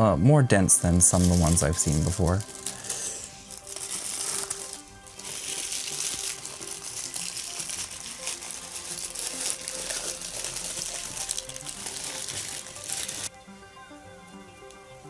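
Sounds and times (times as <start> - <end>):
faint background music: 0.0 - 15.0
tissue paper rustling: 0.9 - 13.3.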